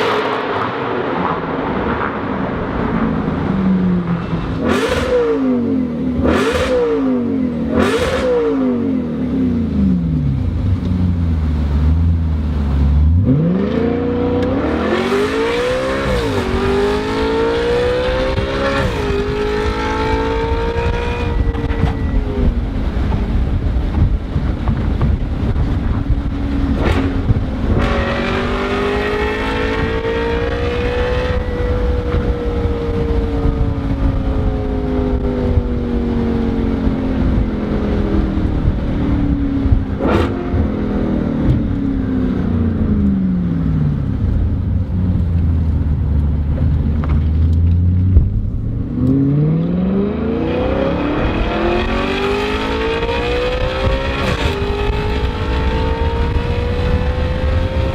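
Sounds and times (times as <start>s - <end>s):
car engine accelerating: 0.0s - 57.9s
low road rumble: 0.0s - 57.9s.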